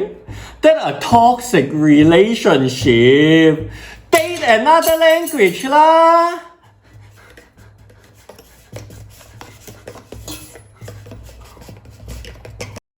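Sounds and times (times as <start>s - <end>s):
rubbing noises: 0.7s - 12.8s.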